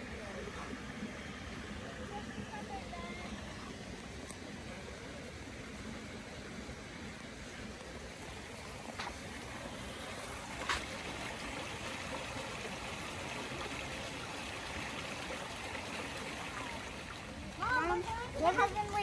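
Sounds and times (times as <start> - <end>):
stream flowing over stones: 0.0 - 19.0.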